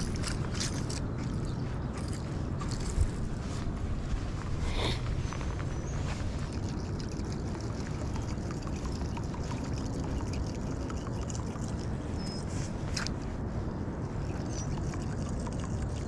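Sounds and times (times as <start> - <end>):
faint water sounds: 0.0 - 16.0
wind rumbling on microphone: 0.0 - 16.0.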